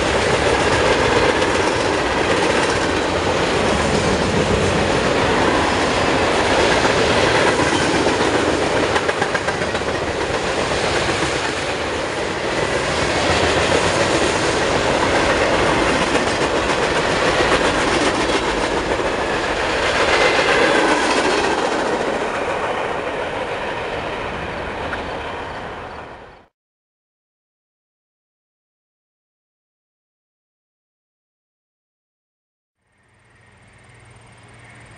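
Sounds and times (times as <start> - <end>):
railroad cars rolling on track: 0.0 - 26.5, 33.0 - 34.9.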